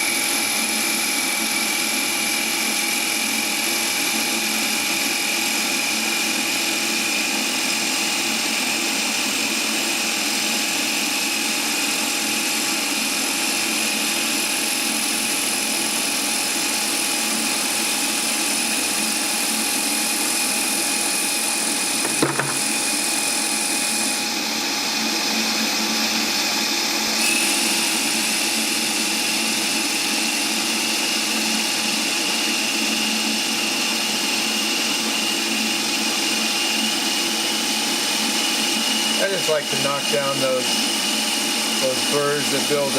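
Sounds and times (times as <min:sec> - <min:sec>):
lathe whining: 0:00.0 - 0:26.4, 0:27.1 - 0:42.9.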